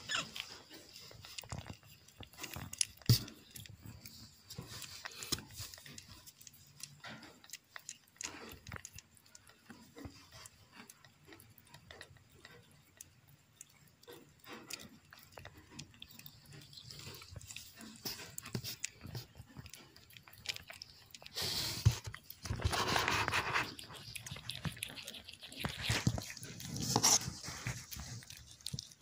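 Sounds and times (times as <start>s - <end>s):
cat licking and chewing: 0.0s - 29.0s.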